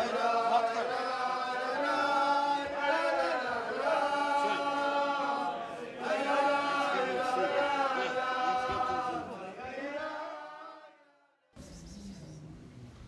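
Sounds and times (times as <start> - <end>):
voices singing a slow chant: 0.0 - 11.4.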